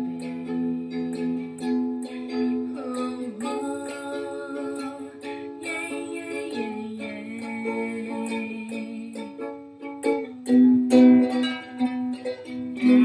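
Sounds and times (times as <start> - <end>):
ukulele strumming: 0.0 - 13.0.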